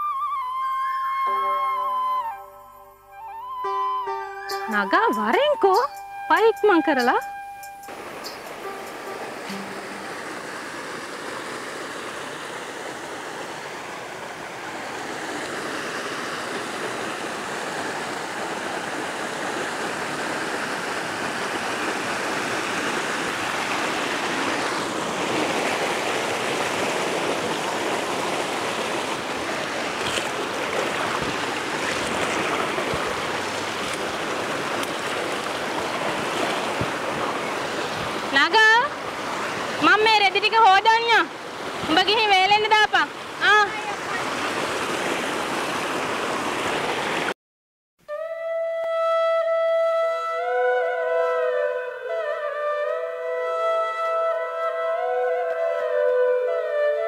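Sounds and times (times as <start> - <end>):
water rushing: 0.0 - 47.4.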